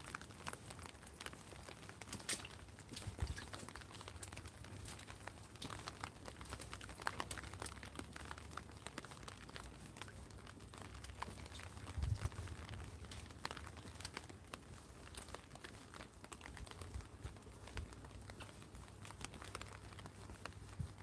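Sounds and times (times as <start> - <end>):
rain drumming on plastic umbrella: 0.0 - 21.0.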